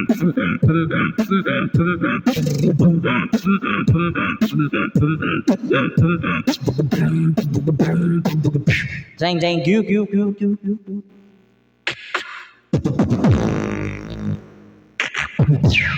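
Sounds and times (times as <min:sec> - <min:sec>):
person beatboxing: 0:00.0 - 0:11.0, 0:11.9 - 0:14.4, 0:15.0 - 0:15.9.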